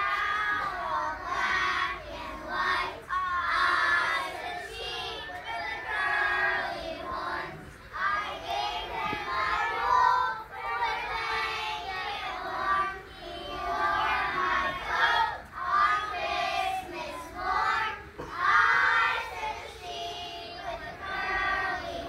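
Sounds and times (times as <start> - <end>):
children singing together: 0.0 - 22.0.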